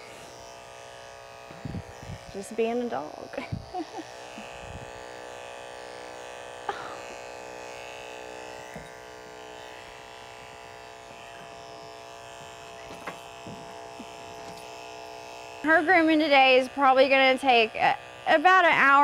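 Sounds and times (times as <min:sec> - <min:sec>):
electric clippers buzzing: 0:00.0 - 0:19.0.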